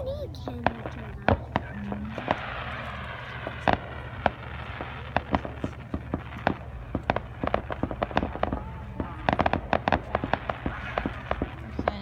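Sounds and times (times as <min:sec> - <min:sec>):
fireworks bangs and pops: 0:00.0 - 0:12.0
fireworks crackling: 0:00.0 - 0:12.0.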